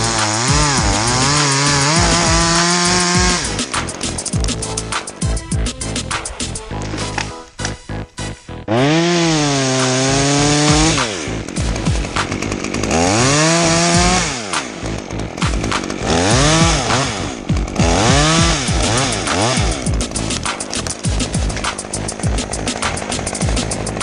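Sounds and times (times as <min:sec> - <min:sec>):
chainsaw revving: 0:00.0 - 0:24.0.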